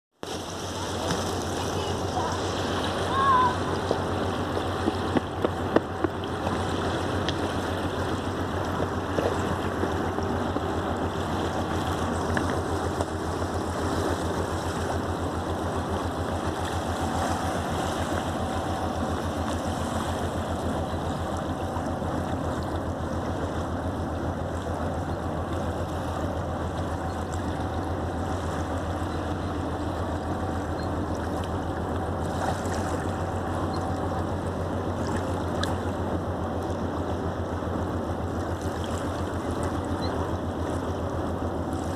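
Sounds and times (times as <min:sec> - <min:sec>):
water lapping against quay: 0:00.2 - 0:41.9
diesel engine pulsing drone: 0:00.3 - 0:41.9.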